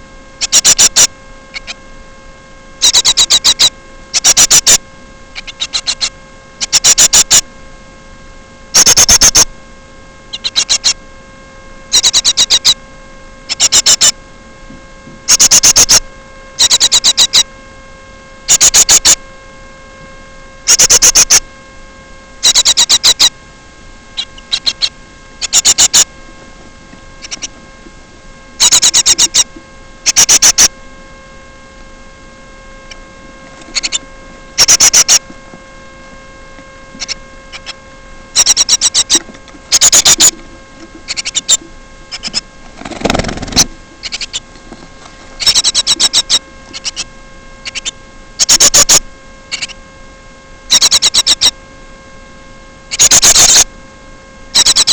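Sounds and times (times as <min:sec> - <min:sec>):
bird buzzy calls: 0:00.0 - 0:07.6, 0:08.7 - 0:14.4, 0:15.2 - 0:17.6, 0:18.4 - 0:19.3, 0:20.6 - 0:21.6, 0:22.3 - 0:50.0, 0:50.6 - 0:51.7, 0:52.8 - 0:53.8, 0:54.5 - 0:54.9
electrical hum: 0:00.0 - 0:54.9.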